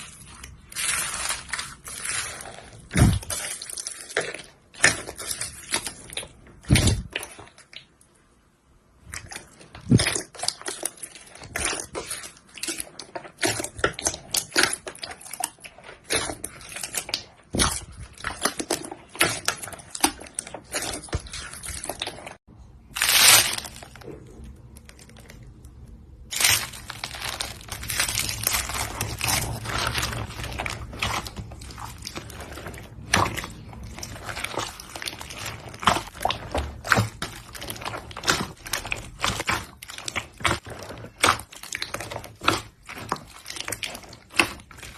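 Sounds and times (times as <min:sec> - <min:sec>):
slime crackling and squelching: 0:00.0 - 0:44.9.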